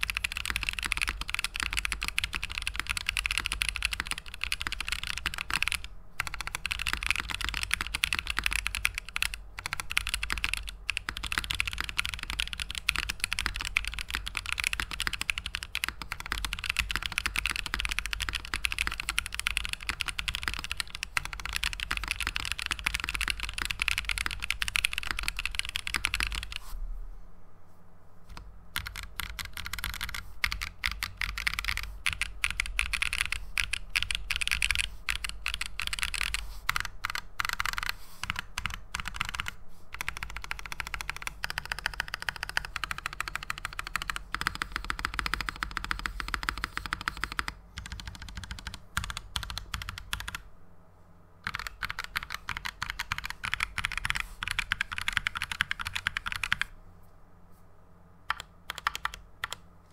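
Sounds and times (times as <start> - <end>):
mechanical keyboard typing: 0.0 - 26.6, 28.3 - 50.5, 51.4 - 56.7, 58.3 - 59.6.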